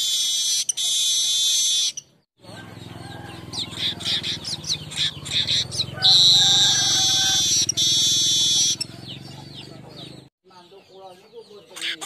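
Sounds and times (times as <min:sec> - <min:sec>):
bird chirps and buzzing trill: 0:00.0 - 0:12.0.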